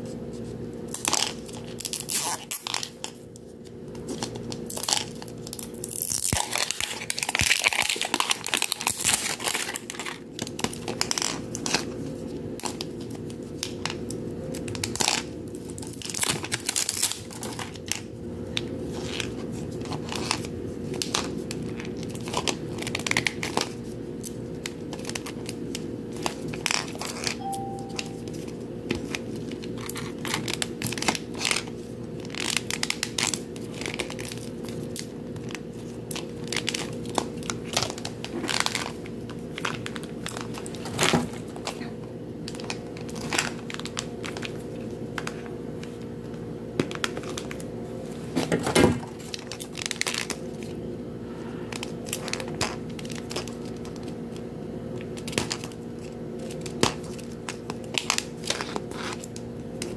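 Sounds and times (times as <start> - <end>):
plastic crinkling: 0.4 - 46.1, 46.8 - 48.4, 49.1 - 50.8, 51.7 - 59.9.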